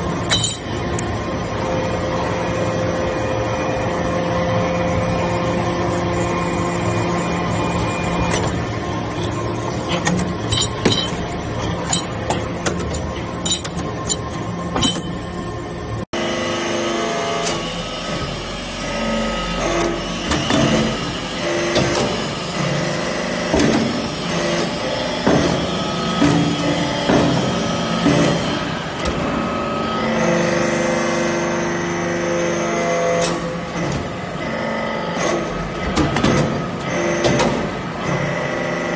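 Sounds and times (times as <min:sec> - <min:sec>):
hydraulic press humming: 0:00.0 - 0:38.9.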